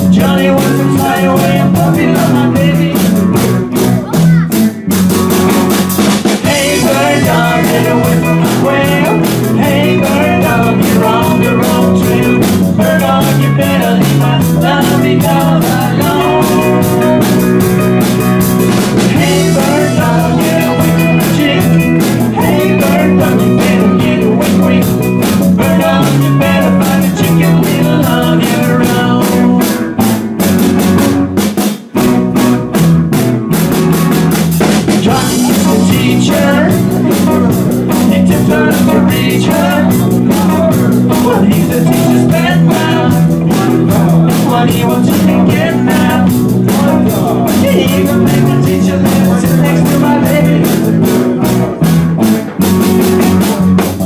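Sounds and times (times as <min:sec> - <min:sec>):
person singing: 0:00.0 - 0:05.0, 0:06.4 - 0:30.0, 0:34.9 - 0:51.8, 0:52.5 - 0:54.0
bass guitar: 0:00.0 - 0:54.0
drum kit: 0:00.0 - 0:54.0
electric guitars: 0:00.0 - 0:54.0.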